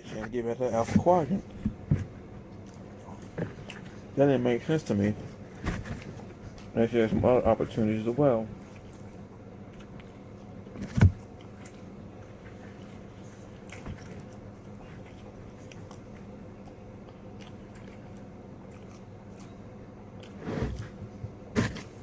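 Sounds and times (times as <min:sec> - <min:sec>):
steady low hum: 0:00.0 - 0:22.0
person chewing pizza: 0:00.1 - 0:22.0.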